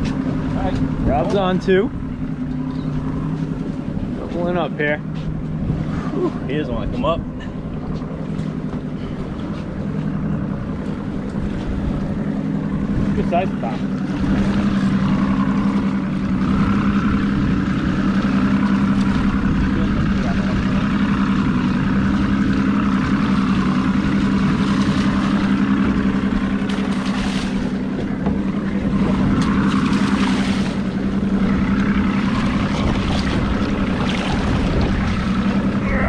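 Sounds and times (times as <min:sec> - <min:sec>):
outboard motor running: 0:00.0 - 0:36.0
wind and water rushing: 0:00.0 - 0:36.0.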